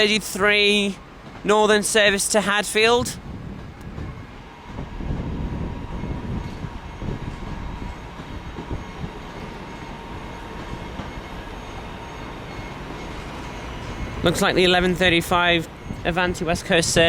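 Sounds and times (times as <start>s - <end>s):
electric train rumbling slowly: 0.0s - 17.0s.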